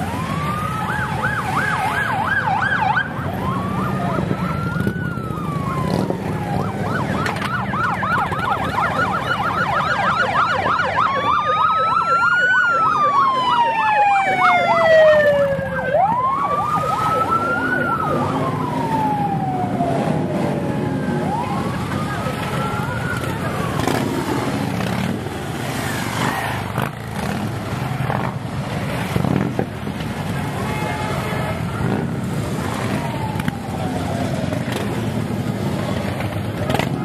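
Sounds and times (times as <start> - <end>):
yelping siren sweeps: 0.0 - 27.4, 31.5 - 36.0
motorcycle engines rolling past: 0.0 - 30.8, 31.4 - 37.0
wailing sirens: 0.0 - 37.0.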